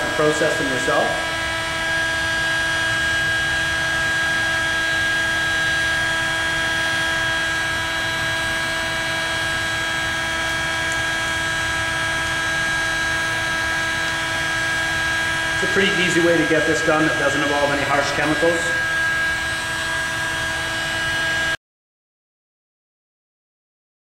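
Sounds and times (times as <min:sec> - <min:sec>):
fan motor whine: 0:00.0 - 0:21.6.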